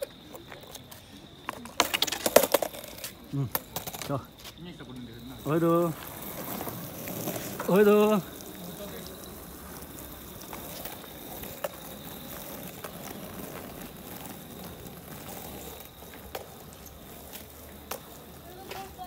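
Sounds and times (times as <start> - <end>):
skateboard wheels rolling: 0.0 - 19.0.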